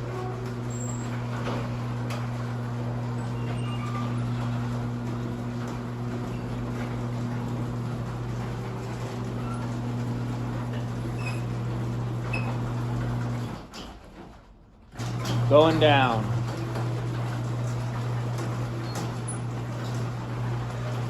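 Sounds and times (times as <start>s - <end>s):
garage door opener motor humming: 0.0s - 21.0s.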